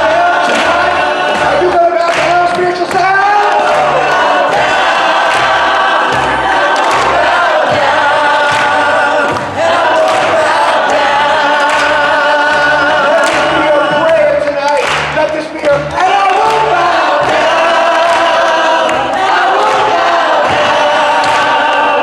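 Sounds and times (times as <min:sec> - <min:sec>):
group of voices singing: 0:00.0 - 0:14.9, 0:15.7 - 0:22.0
steady low beat: 0:00.0 - 0:22.0.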